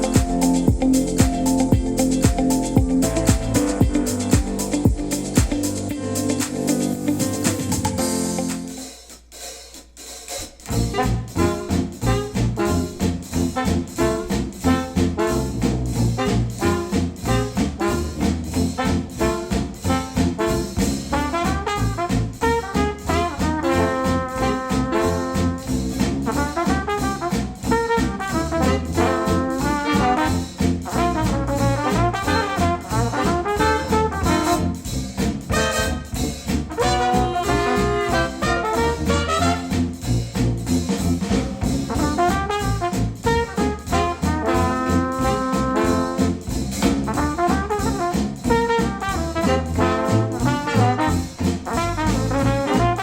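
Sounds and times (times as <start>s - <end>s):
jazzy brass instrumental music: 0.0s - 53.0s
steady drum beat: 0.0s - 53.0s.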